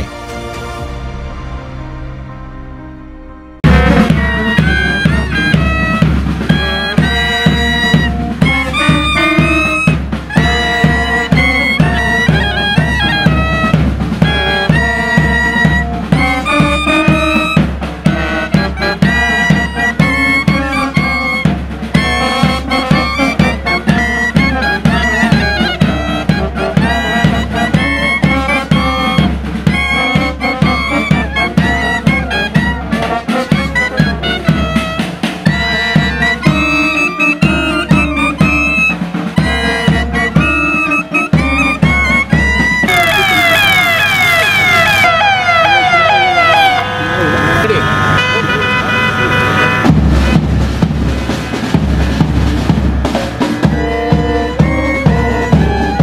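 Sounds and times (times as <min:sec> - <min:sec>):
clarinets and brass horns: 0:00.0 - 0:56.0
bass drum beat: 0:03.6 - 0:44.0, 0:47.2 - 0:56.0.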